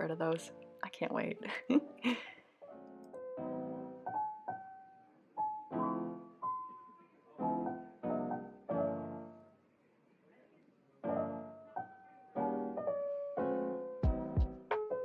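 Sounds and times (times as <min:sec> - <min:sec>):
piano chords and notes: 0:00.0 - 0:09.7, 0:11.0 - 0:15.0.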